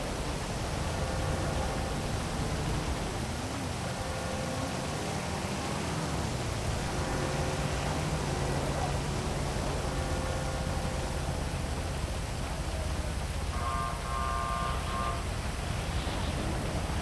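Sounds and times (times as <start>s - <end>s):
heavy rain hiss: 0.0s - 17.0s
low city traffic hum: 0.0s - 17.0s.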